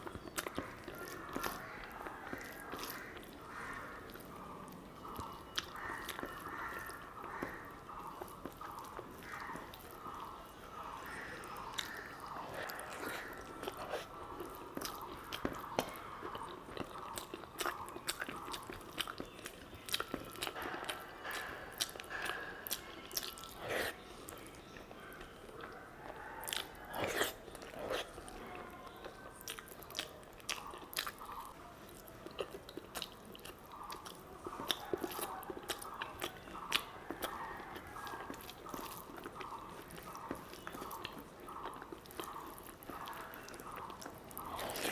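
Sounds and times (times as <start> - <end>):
mouth chewing food: 0.0 - 44.9.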